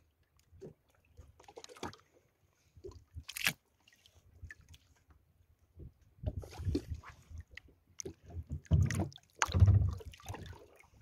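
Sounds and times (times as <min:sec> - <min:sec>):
seawater splashing and sloshing: 0:00.5 - 0:05.1, 0:06.3 - 0:11.0.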